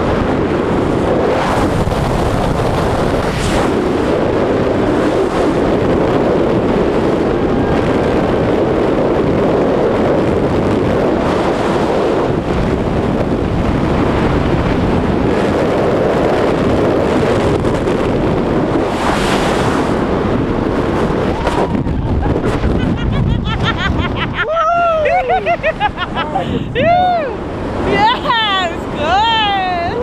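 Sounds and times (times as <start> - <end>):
wind roaring over microphone: 0.0 - 30.0.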